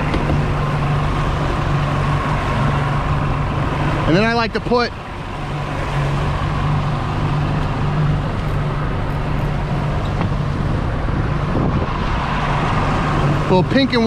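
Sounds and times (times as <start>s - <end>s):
boat wake rushing and splashing: 0.0s - 14.0s
outboard motor humming: 0.0s - 14.0s.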